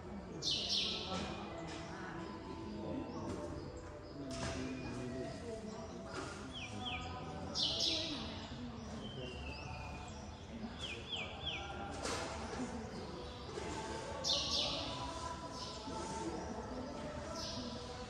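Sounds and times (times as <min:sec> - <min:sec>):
hum of voices: 0:00.0 - 0:18.0
small birds chirping: 0:00.2 - 0:18.0.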